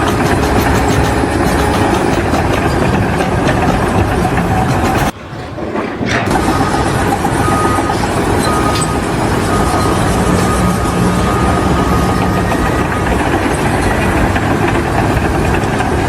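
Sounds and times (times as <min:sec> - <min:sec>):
loud rumbling machinery: 0:00.0 - 0:16.0.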